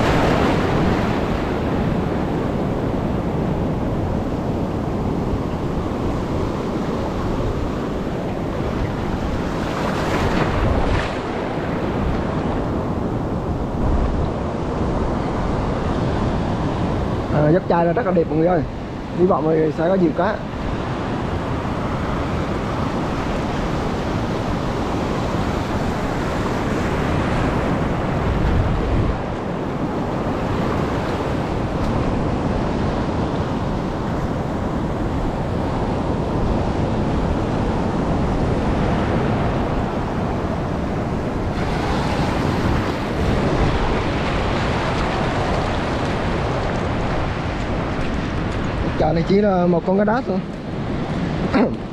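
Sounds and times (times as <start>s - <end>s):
heavy surf washing onto shore: 0.0s - 51.9s
wind buffeting microphone: 0.0s - 51.9s.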